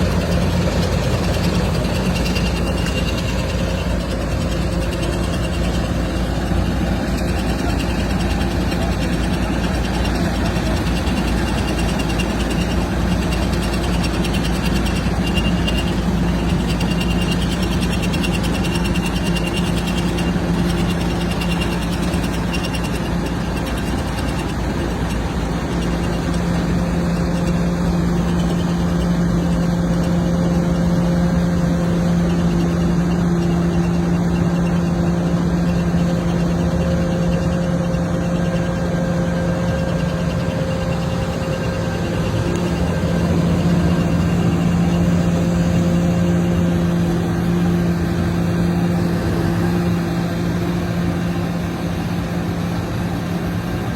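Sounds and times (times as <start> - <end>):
harvester engine drone: 0.0 - 53.9.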